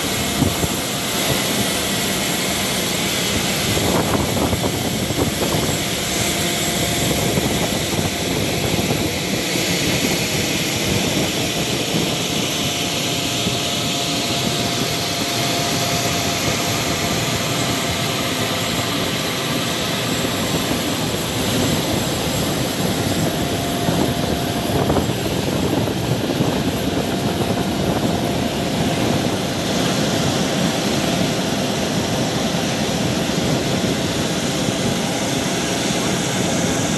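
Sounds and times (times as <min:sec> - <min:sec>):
jet turbine whine and rush: 0:00.0 - 0:36.9.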